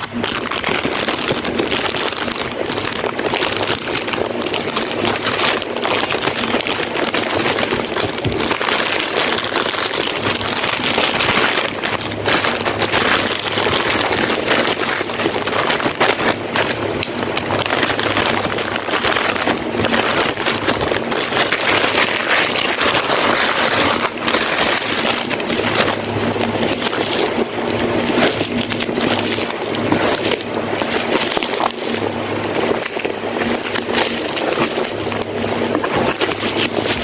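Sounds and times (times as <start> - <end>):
plastic packaging crinkling: 0.0 - 37.0.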